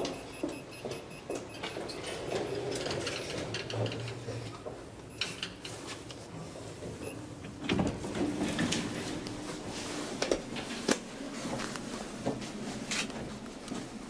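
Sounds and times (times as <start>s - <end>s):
elevator door mechanism humming: 0.0s - 14.0s.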